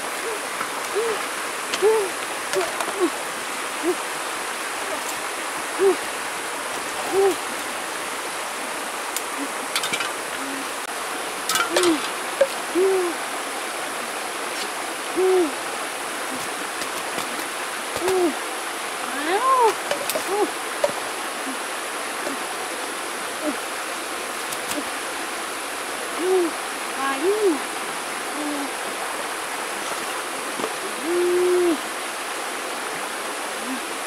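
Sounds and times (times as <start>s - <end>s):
shallow rocky river rushing: 0.0s - 34.0s.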